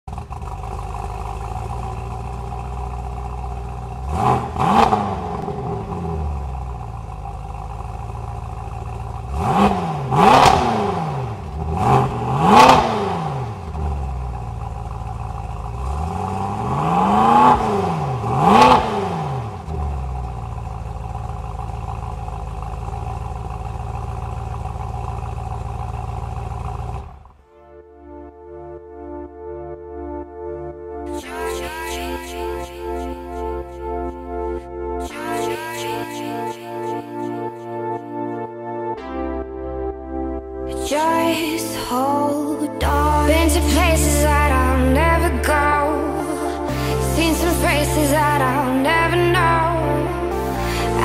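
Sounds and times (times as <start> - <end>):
car engine idling and revving: 0.0 - 27.5, 31.2 - 51.0.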